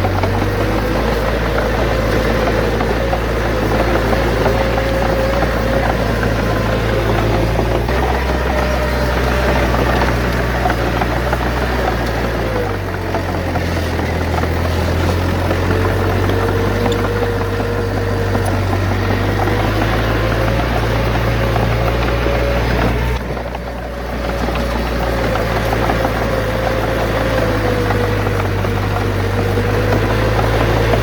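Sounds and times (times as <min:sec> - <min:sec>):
bulldozer diesel engine: 0:00.0 - 0:31.0.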